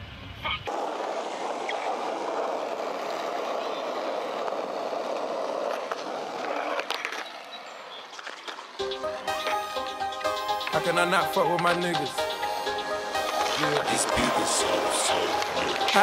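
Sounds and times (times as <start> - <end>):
skateboard wheels rolling on asphalt: 0.3 - 16.0.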